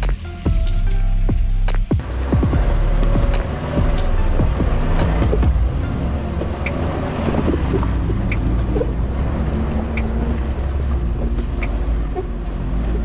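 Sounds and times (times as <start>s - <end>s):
car engine running off-road: 0.0s - 13.0s
wind buffeting microphone: 2.4s - 13.0s.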